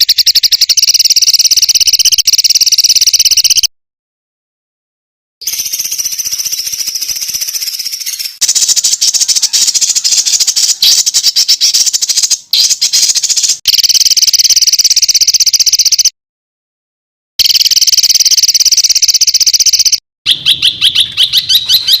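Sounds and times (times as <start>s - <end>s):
songbird rattling trills: 0.0s - 3.7s, 5.4s - 16.1s, 17.4s - 22.0s.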